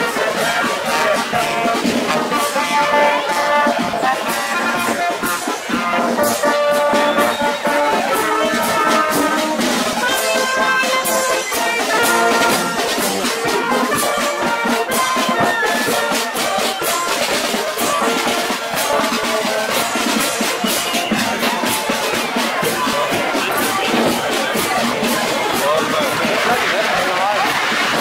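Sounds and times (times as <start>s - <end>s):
marching band playing: 0.0s - 28.0s
regular drumbeat: 0.0s - 28.0s.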